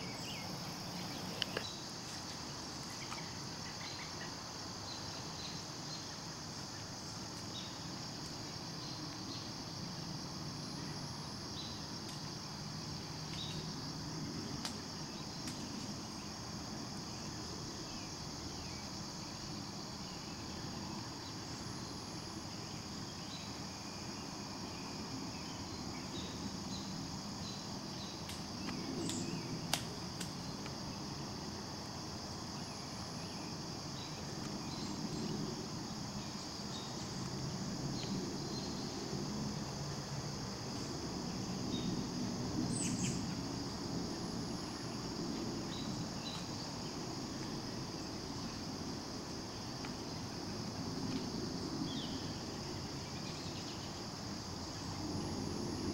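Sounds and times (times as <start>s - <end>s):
insects chirping in woods: 0.0s - 55.9s.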